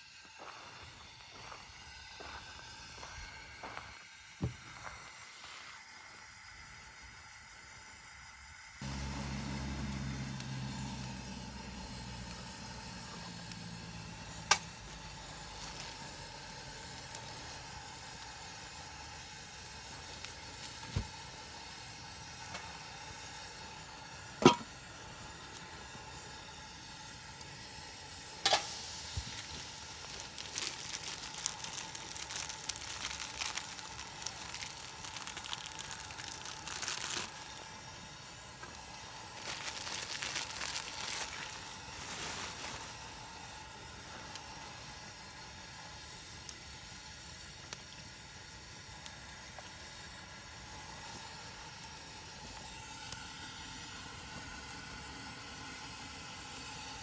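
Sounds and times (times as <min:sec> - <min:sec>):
food sizzling in a pan: 0:01.7 - 0:57.0.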